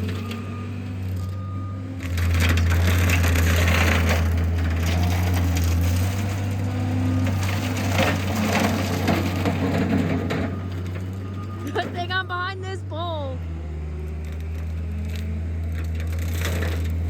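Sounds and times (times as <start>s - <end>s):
wood crackling and splintering: 0.0s - 17.0s.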